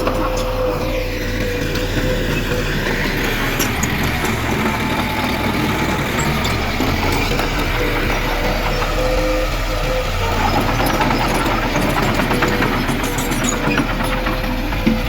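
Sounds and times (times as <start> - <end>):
heavy machinery diesel engine: 0.0 - 15.0
metallic clanking and rattling: 0.0 - 15.0.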